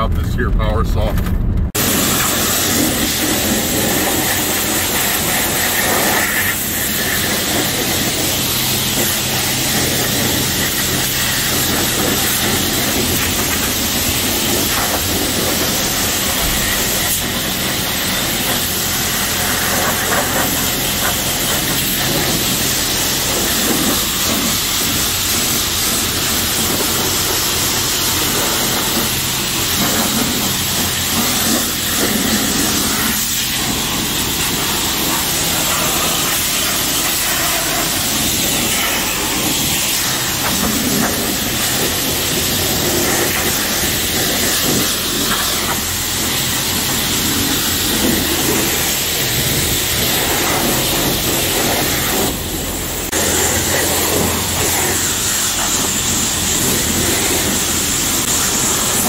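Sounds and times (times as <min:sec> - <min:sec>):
pressure washer spraying water: 0:01.8 - 0:59.0.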